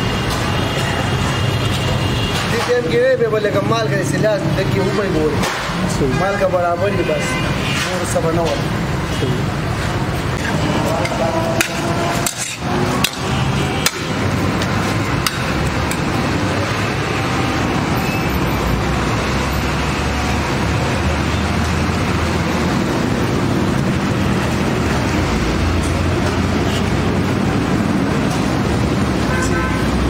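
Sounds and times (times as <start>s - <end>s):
passing traffic rumble: 0.0s - 30.0s.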